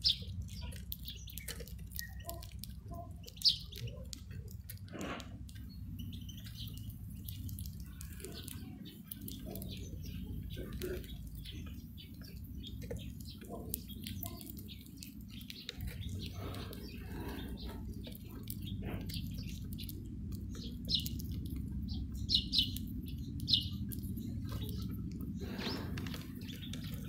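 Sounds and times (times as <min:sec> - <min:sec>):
goldfinches chirping: 0:00.0 - 0:04.0, 0:05.6 - 0:27.0
steady low rumble: 0:00.0 - 0:27.0.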